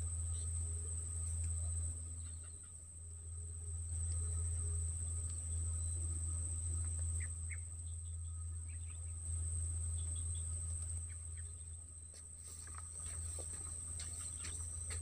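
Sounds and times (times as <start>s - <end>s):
insects buzzing: 0.0s - 15.0s
low hum: 0.0s - 15.0s.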